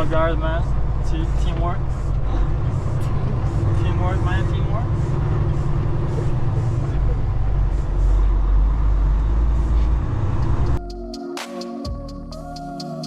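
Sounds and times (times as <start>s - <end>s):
diesel truck engine running: 0.0s - 10.8s
electronic background music: 2.5s - 13.0s.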